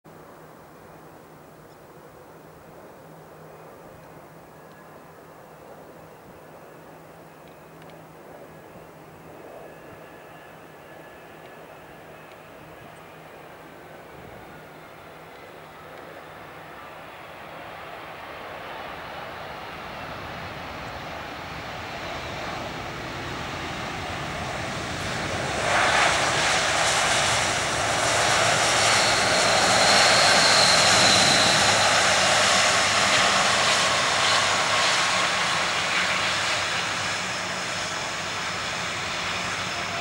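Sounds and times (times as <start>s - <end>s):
jet engines reverse thrust roar: 7.8s - 40.0s.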